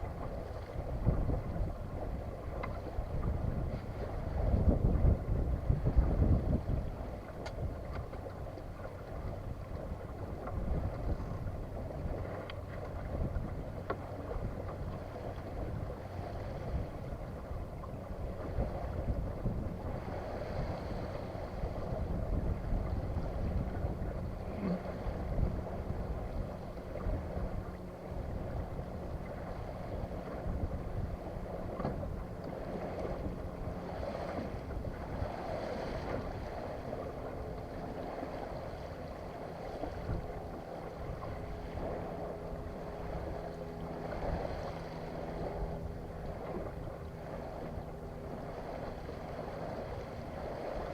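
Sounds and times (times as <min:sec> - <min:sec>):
water moving along hull: 0:00.0 - 0:50.9
wind buffeting microphone: 0:00.0 - 0:50.9.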